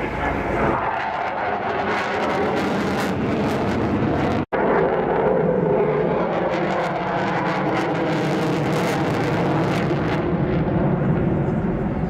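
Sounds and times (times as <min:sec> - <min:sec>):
jet fighter engines roaring: 0:00.0 - 0:12.0.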